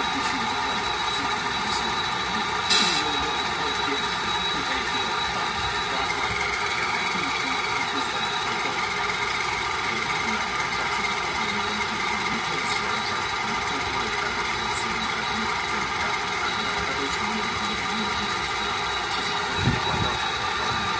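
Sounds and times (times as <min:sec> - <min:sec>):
model truck motor whine: 0:00.0 - 0:20.9.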